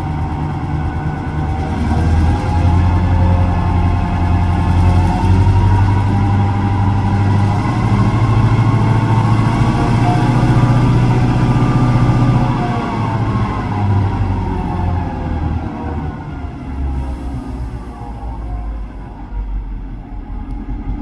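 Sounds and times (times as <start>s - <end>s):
locomotive diesel engine running: 0.0s - 21.0s.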